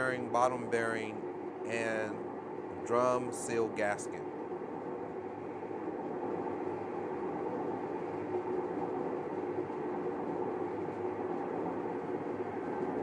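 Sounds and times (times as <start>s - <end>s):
washing machine droning: 0.0s - 13.0s.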